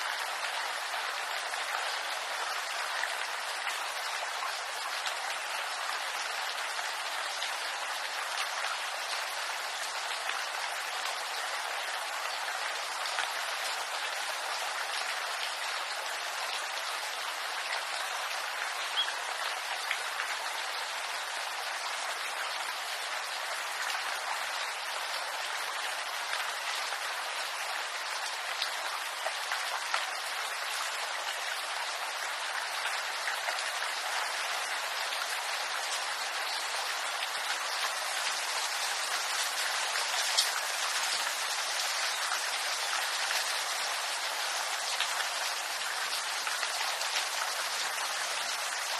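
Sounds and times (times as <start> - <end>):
rain on leaves: 0.0 - 48.9.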